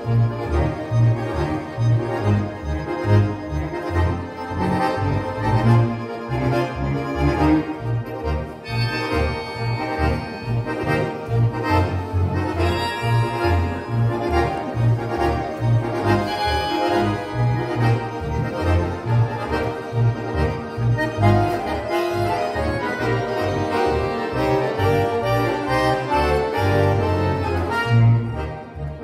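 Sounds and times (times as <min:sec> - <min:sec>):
accordions playing: 0:00.0 - 0:29.0.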